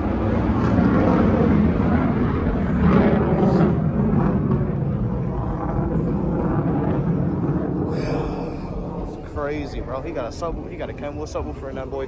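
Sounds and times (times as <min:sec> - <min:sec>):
distant fighter jet rumble: 0:00.0 - 0:12.0.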